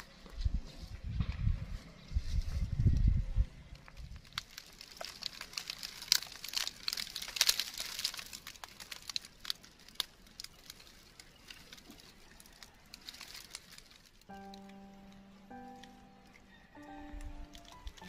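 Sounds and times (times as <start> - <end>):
dry crinkling and crackling: 0.0 - 18.0.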